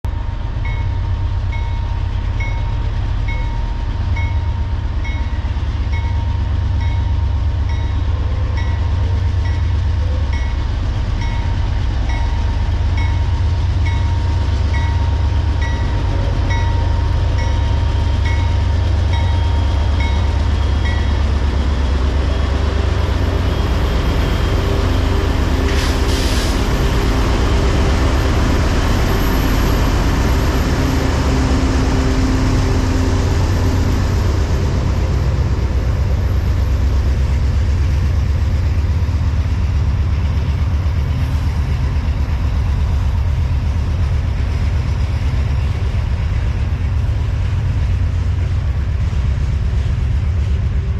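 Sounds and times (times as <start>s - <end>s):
freight train rumbling: 0.0s - 50.9s.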